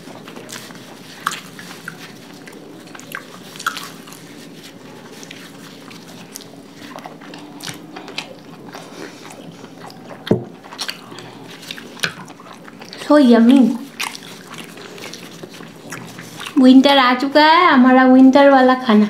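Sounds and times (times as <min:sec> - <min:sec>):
people chewing: 0:00.0 - 0:17.4
low steady hum: 0:00.0 - 0:19.0.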